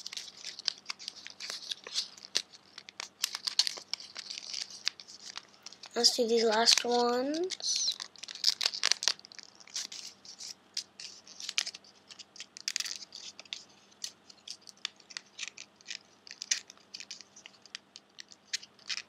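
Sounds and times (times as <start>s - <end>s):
origami paper rustling: 0.0s - 19.0s.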